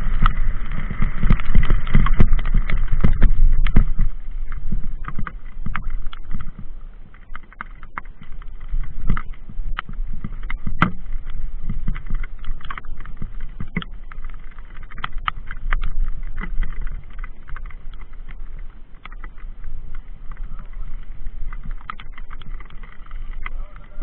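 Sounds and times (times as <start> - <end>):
mountain bike rattling: 0.0 - 24.0
wind on microphone: 0.0 - 24.0.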